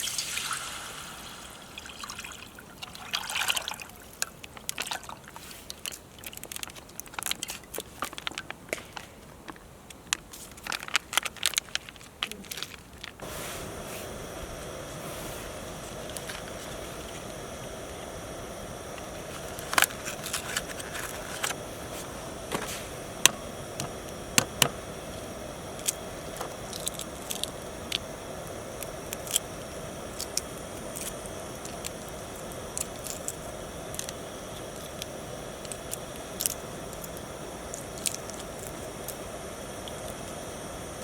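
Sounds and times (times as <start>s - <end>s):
campfire crackling: 0.0s - 41.0s.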